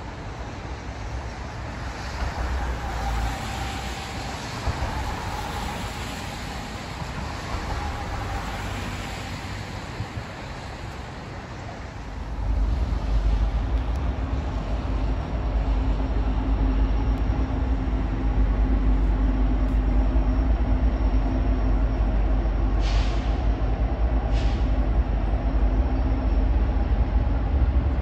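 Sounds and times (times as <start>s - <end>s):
distant road traffic: 0.0s - 28.0s
low rumble: 0.2s - 28.0s.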